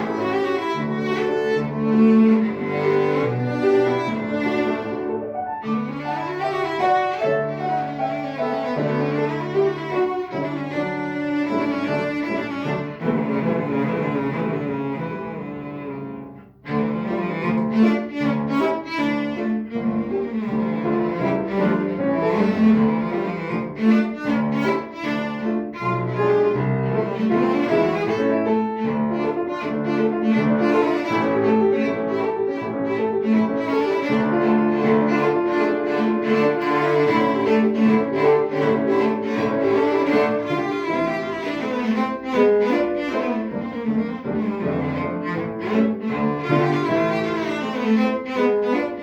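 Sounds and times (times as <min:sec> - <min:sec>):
piano accompaniment: 0:00.0 - 0:49.0.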